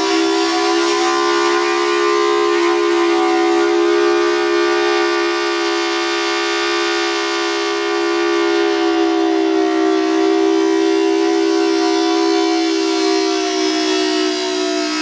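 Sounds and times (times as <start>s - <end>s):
tornado warning siren: 0.0s - 15.0s.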